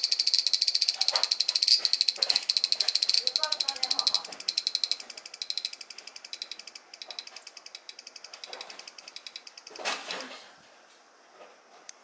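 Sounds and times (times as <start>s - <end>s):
cicada shrilling: 0.0s - 9.7s.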